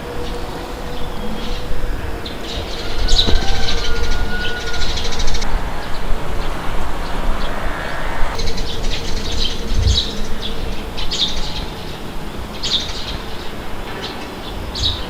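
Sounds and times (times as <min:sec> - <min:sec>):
birds chirping: 0:00.0 - 0:15.0
low rumble of wind: 0:00.0 - 0:15.0.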